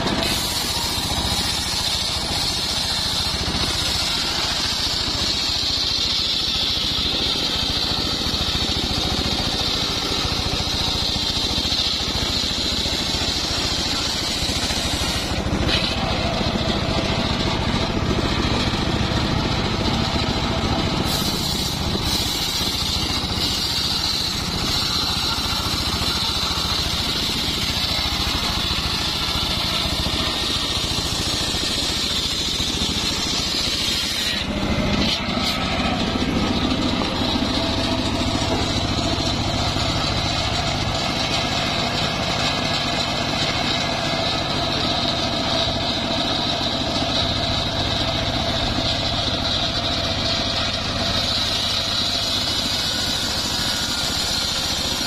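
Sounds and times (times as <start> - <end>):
circular sawmill ripping a log: 0.0 - 55.0.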